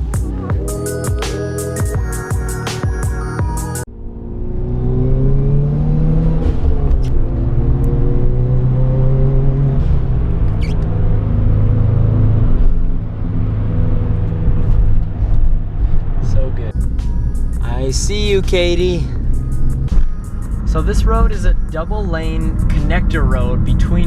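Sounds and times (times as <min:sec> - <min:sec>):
car engine from inside cabin: 0:03.8 - 0:24.0.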